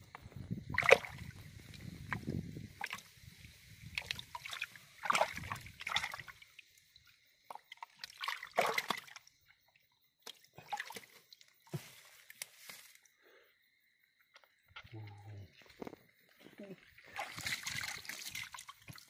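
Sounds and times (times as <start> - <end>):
water sloshing and splashing: 0.6 - 13.0, 14.3 - 19.0.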